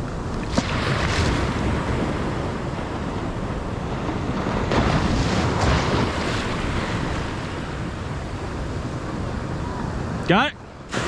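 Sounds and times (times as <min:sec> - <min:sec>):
ocean surf washing in: 0:00.0 - 0:11.0
wind rumbling on microphone: 0:00.0 - 0:11.0.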